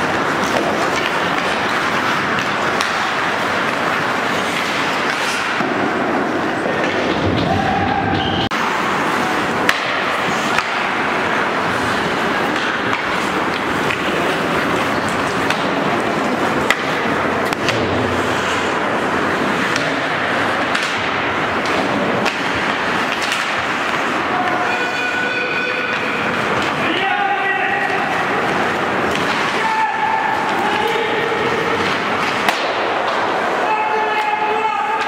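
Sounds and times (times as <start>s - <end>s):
hockey sticks and puck clacking: 0.0s - 35.0s
skates scraping on ice: 0.0s - 35.0s.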